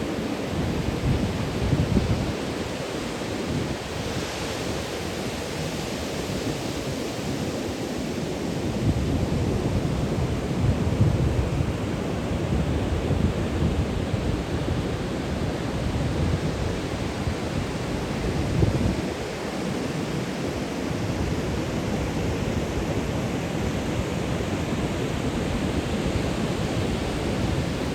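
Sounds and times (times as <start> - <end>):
ocean surf: 0.0 - 27.9
wind buffeting microphone: 0.0 - 27.9.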